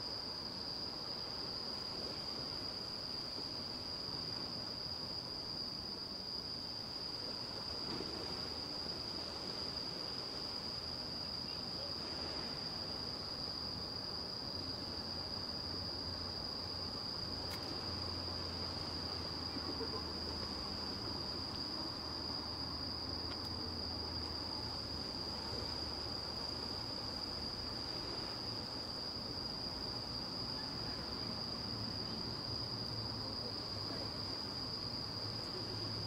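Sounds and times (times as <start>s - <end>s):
crickets trilling: 0.0s - 36.0s
faint low hum: 6.6s - 36.0s.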